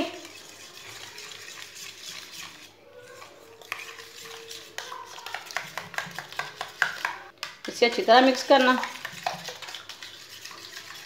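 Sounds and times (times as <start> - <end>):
spoon stirring wet eggs: 0.0 - 11.0.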